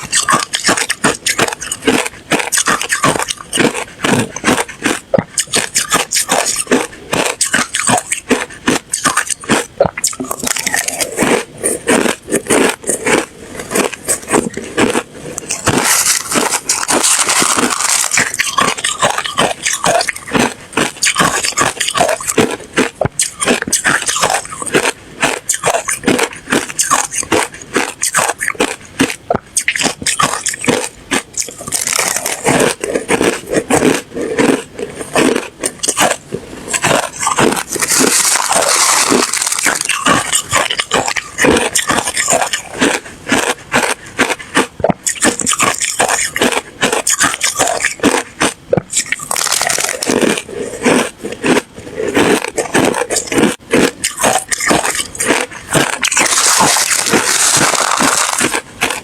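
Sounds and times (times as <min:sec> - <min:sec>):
person chewing ice: 0:00.0 - 0:59.0.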